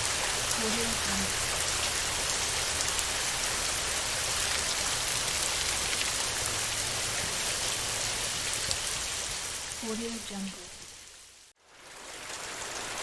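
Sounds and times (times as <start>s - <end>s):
heavy rain on a metal roof: 0.0s - 13.0s.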